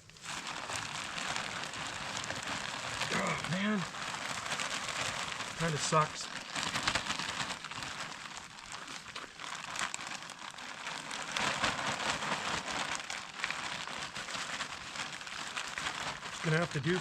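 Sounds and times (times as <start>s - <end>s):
soil rustling as packed by hand: 0.0s - 17.0s.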